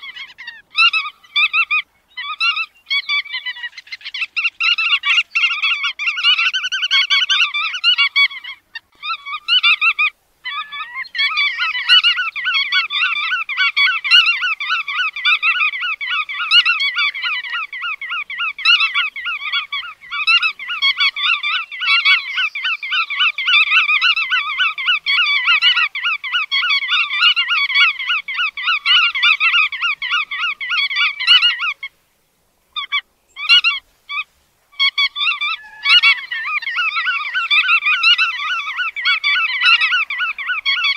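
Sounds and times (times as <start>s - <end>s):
godwits calling: 0.0s - 31.9s, 32.8s - 40.9s.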